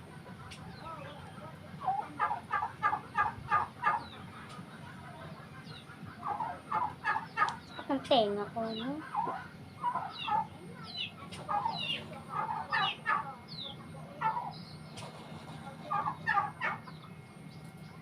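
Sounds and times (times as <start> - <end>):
chickens clucking: 0.0 - 18.0
steady low hum: 0.0 - 18.0.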